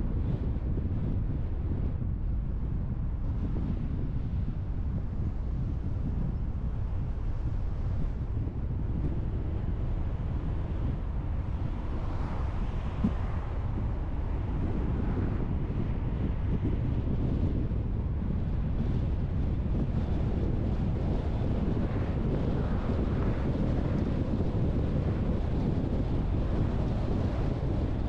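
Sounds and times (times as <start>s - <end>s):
car road and wind noise: 0.0s - 28.0s.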